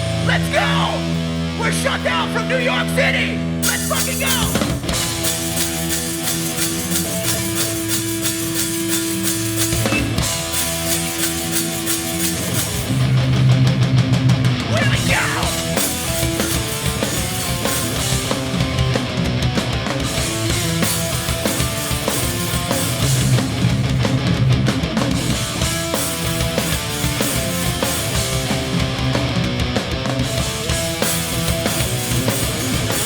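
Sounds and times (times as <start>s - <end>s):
distorted electric guitars: 0.0s - 33.0s
driving drum kit: 0.0s - 33.0s.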